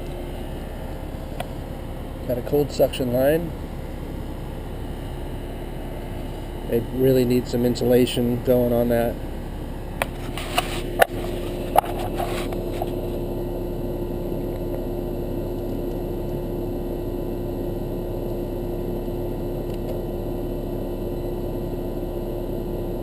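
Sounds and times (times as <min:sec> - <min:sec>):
air conditioner unit humming: 0:00.0 - 0:23.0.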